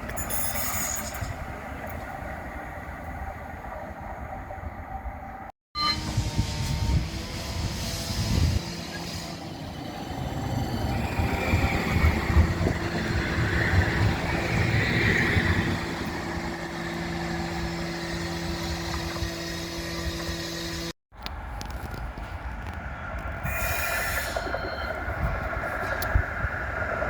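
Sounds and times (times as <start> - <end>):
tram electrical hum: 0.0 - 27.0.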